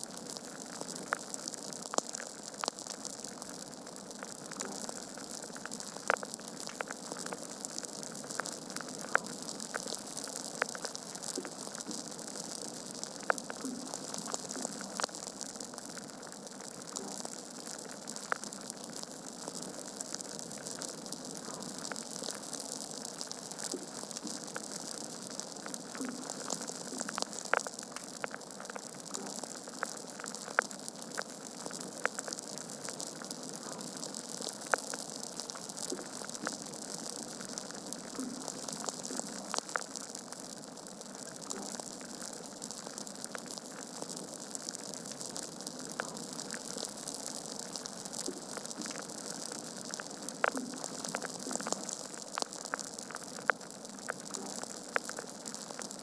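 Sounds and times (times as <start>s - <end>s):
burning logs popping: 0.2s - 56.0s.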